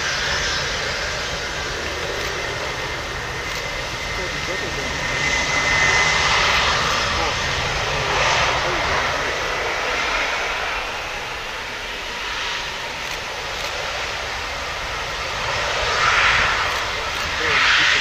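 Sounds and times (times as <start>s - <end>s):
jet engines rushing whine: 0.0s - 18.0s.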